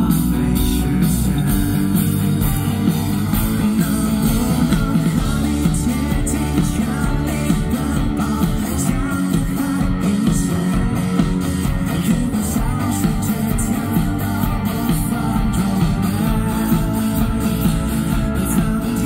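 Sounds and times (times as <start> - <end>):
bass guitar: 0.0 - 19.0
electric guitars: 0.0 - 19.0
person singing lead vocal: 0.0 - 19.0.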